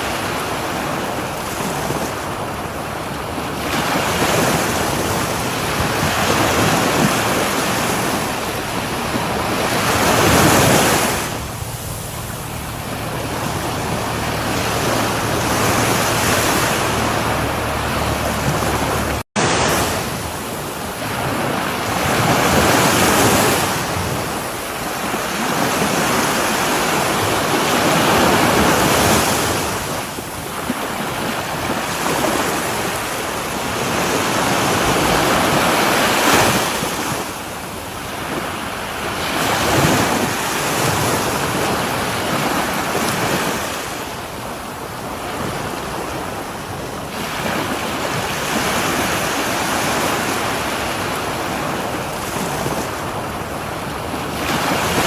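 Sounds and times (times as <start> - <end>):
ocean waves breaking on shore: 0.0 - 55.0
wind noise on microphone: 0.0 - 55.0.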